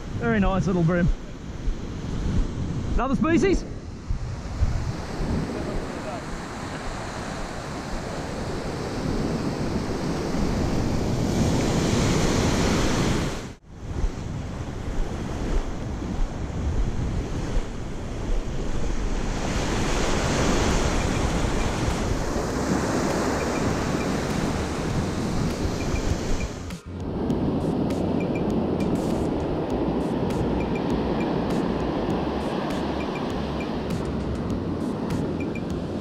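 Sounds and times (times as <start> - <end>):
ocean surf on beach: 0.0 - 36.0
wind buffeting microphone: 0.0 - 36.0.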